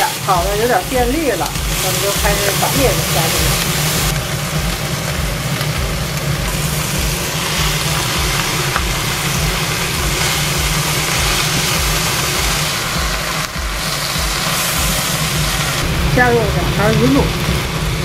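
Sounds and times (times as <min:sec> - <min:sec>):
low rumble: 0:00.0 - 0:18.0
vegetables sizzling in hot oil: 0:00.0 - 0:18.0.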